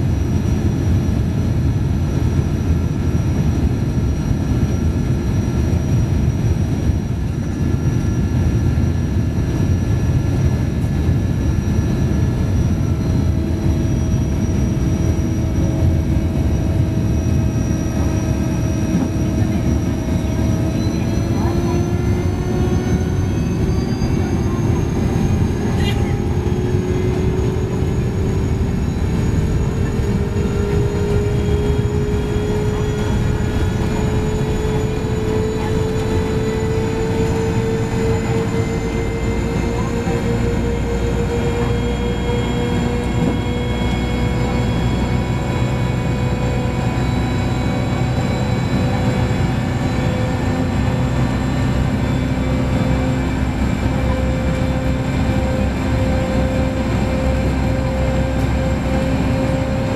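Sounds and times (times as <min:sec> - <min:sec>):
turbine low rumble: 0:00.0 - 0:59.9
whining tone rising in pitch: 0:08.1 - 0:59.9.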